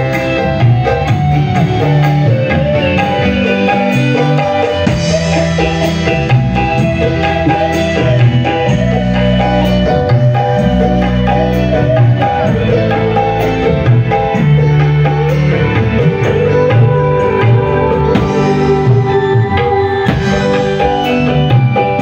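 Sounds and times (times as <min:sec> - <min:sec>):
dance music with hand drumming: 0:00.0 - 0:22.0.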